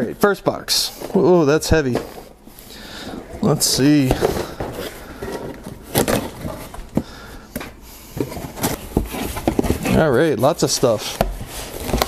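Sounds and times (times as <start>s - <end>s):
tape and packing rustling: 0.9s - 12.0s.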